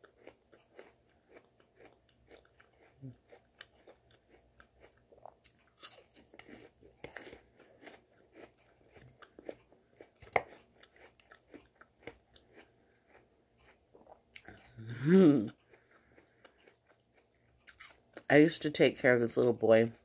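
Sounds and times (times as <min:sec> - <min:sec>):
person chewing crunchy food: 0:00.0 - 0:18.3.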